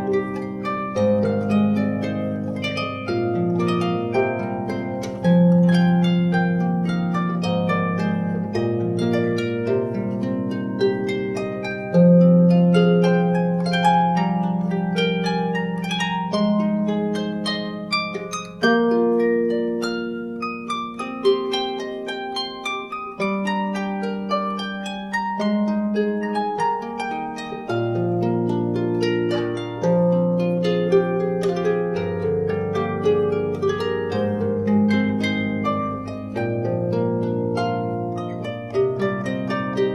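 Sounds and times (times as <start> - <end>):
solo harp melody: 0.0 - 39.9.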